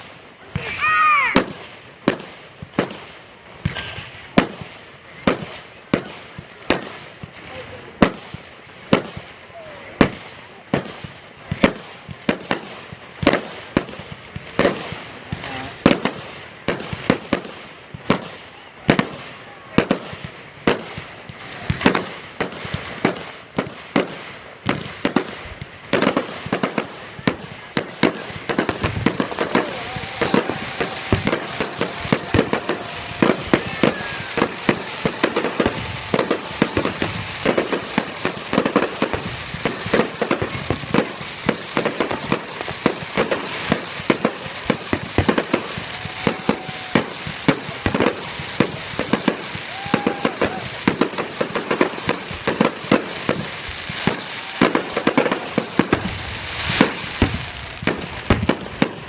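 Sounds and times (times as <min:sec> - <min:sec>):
fireworks banging: 0:00.0 - 0:59.0.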